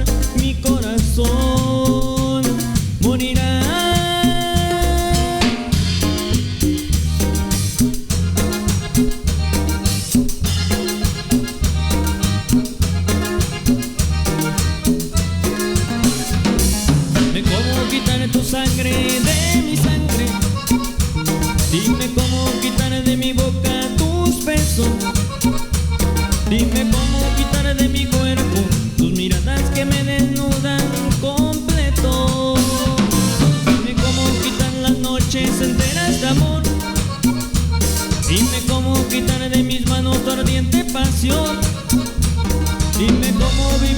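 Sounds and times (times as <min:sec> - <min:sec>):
instrumental cumbia music: 0:00.0 - 0:43.9.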